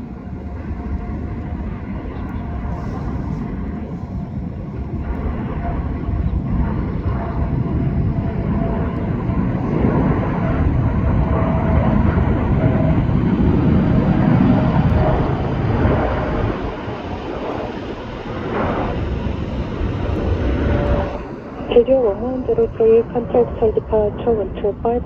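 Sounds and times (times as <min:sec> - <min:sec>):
jet airliner engine noise: 0:00.0 - 0:25.0.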